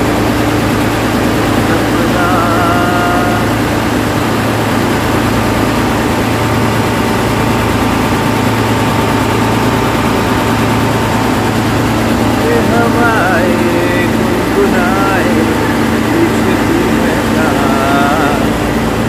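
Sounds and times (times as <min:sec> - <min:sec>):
engine droning: 0:00.0 - 0:19.0.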